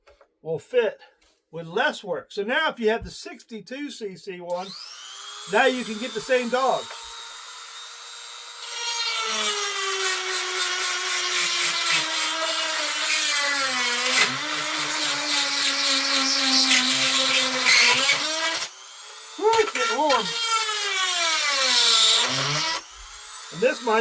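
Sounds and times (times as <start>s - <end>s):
power tool grinding metal: 4.5s - 24.0s.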